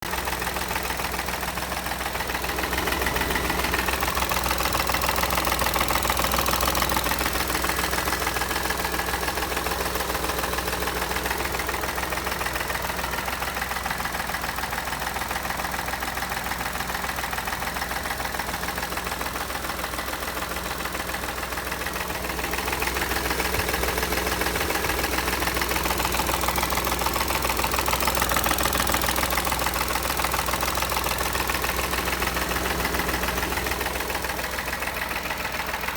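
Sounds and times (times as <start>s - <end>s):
car engine idling abnormally: 0.0s - 35.9s.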